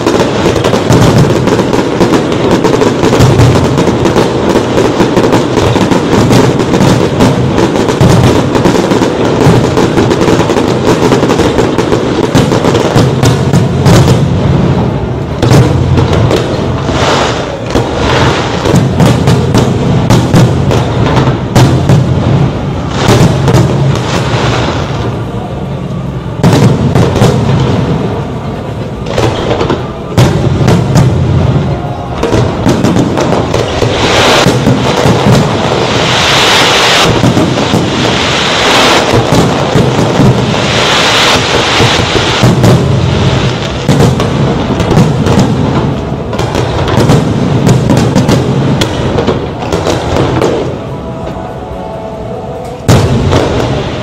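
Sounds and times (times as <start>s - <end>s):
fireworks banging: 0.0s - 54.0s.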